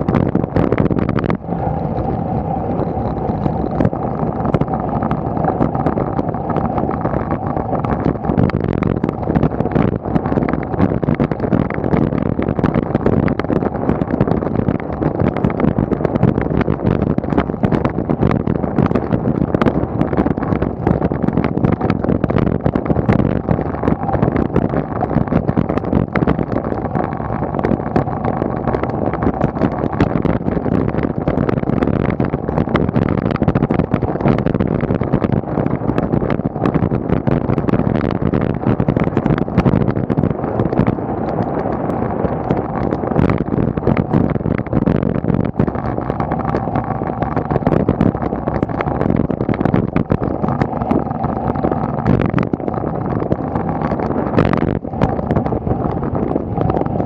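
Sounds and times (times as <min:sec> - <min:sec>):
wind rush: 0:00.0 - 0:57.0.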